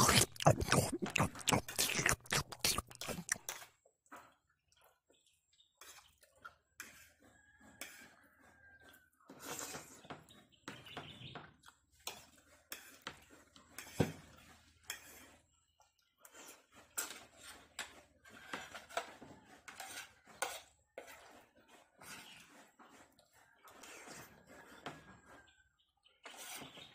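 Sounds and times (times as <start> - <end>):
slurping and chewing noodles: 0.0 - 10.5, 11.6 - 25.6.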